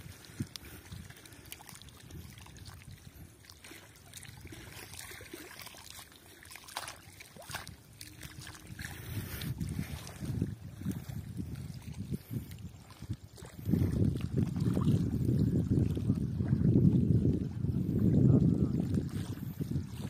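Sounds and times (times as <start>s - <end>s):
small waves lapping: 0.0s - 20.0s.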